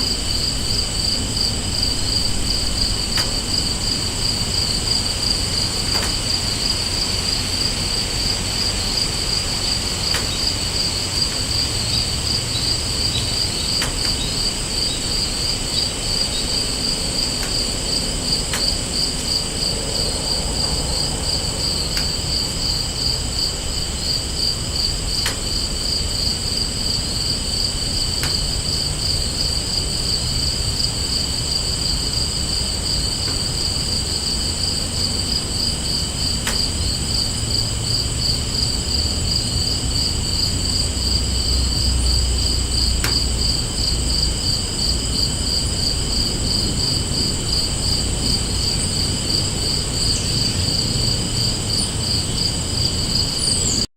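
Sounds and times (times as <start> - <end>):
low background rumble: 0.0 - 53.8
crickets chirping: 0.0 - 53.9.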